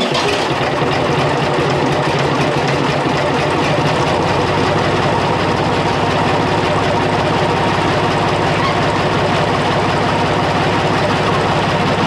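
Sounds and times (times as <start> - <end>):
diesel tractor idling: 0.0 - 12.0.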